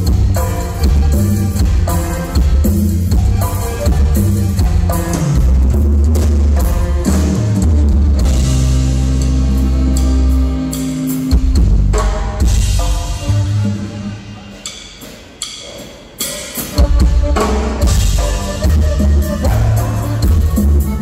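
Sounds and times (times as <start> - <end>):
electric bass: 0.0 - 14.3, 16.8 - 21.0
guitar: 0.0 - 14.5, 16.7 - 21.0
congas: 0.0 - 21.0
drum kit: 0.0 - 21.0.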